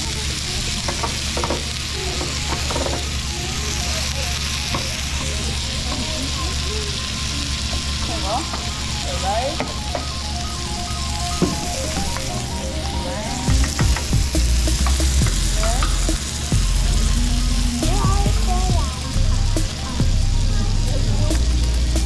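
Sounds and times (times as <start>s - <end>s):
meat sizzling on hot plate: 0.0s - 22.0s.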